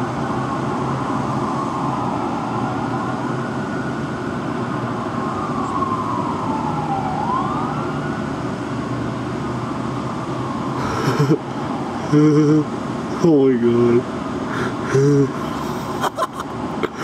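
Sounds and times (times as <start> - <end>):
fire truck siren wailing: 0.0 - 17.0.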